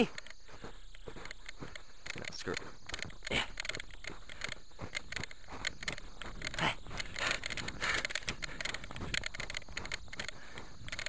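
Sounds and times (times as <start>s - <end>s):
footsteps crunching on snow: 0.0s - 10.9s.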